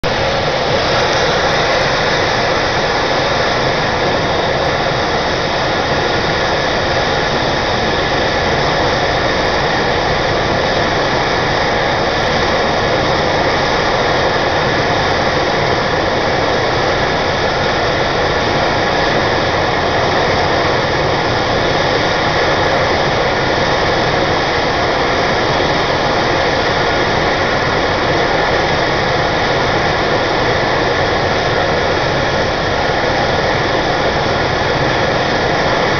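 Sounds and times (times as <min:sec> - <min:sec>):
helicopter rotor rushing noise: 0:00.0 - 0:35.9
helicopter turbine whine: 0:00.0 - 0:35.9.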